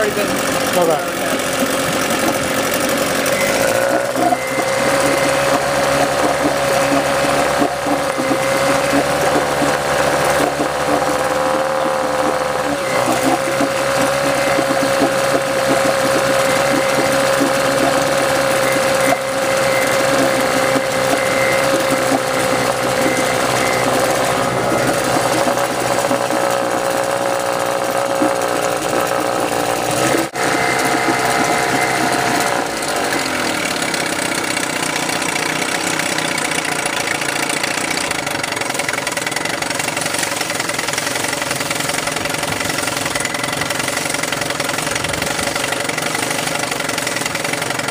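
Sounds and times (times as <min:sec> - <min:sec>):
churning water: 0:00.0 - 0:47.9
outboard motor running: 0:00.0 - 0:47.9.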